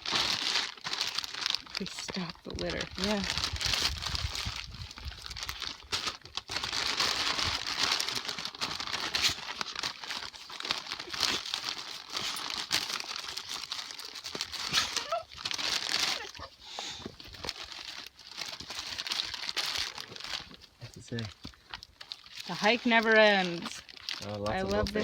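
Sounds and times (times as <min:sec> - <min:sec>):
bag crinkling and rustling: 0:00.0 - 0:25.0.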